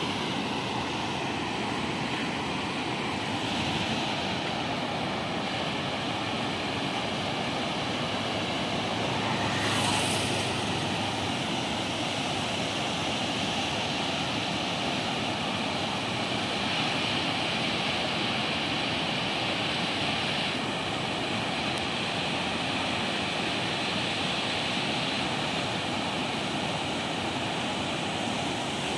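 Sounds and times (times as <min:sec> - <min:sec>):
water rushing over rapids: 0:00.0 - 0:28.9.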